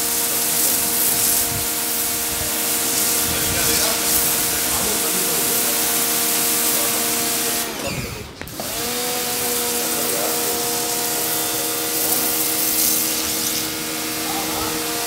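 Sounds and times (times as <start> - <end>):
pressure washer motor: 0.0 - 15.0
water jet hissing: 0.0 - 15.0.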